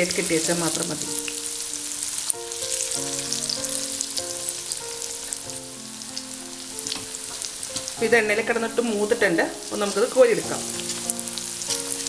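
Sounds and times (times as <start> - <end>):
oil sizzling and crackling: 0.0 - 12.0
soft background melody: 0.0 - 12.0.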